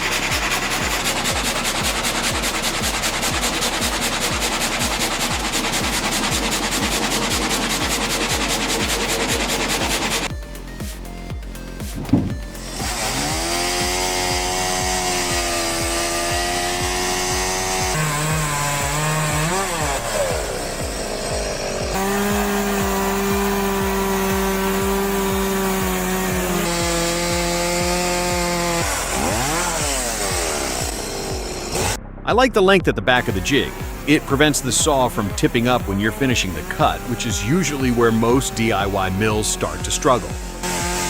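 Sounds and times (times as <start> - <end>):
chainsaw cutting log: 0.0 - 32.0, 33.2 - 41.0.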